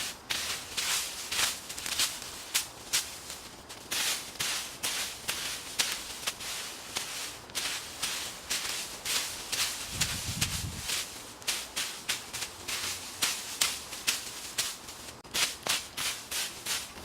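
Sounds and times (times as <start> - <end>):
swishing through dry leaves: 0.0 - 17.0.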